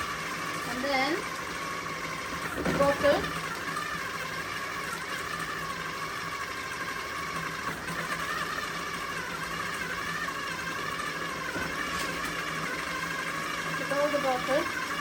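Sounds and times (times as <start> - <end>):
food processor motor running: 0.0 - 15.0.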